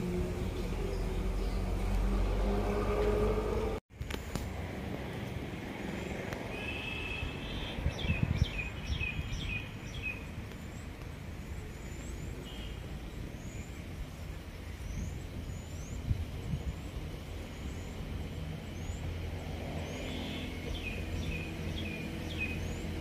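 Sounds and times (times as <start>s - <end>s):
birds chirping: 0.0s - 4.4s, 5.9s - 23.0s.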